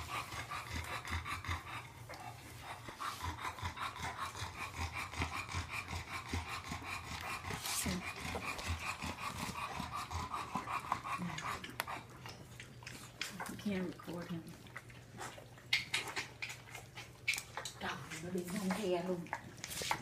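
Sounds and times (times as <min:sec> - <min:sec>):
dogs breathing and snuffling: 0:00.0 - 0:20.0.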